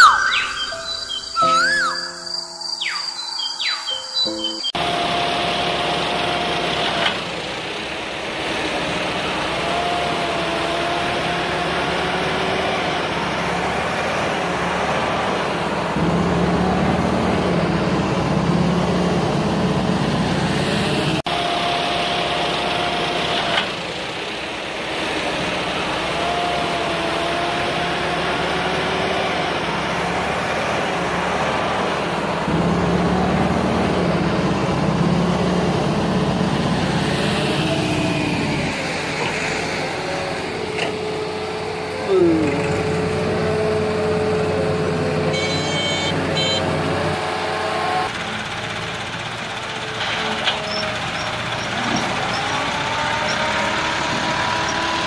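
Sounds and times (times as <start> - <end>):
engine-like hum with whine: 4.6 - 55.0.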